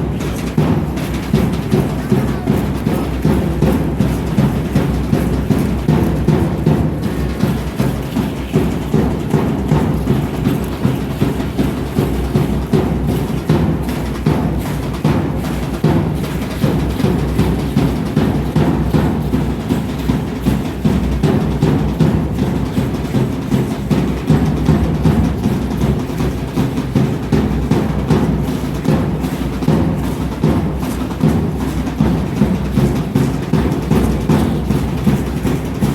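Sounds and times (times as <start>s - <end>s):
large drum steady beat: 0.0s - 35.9s.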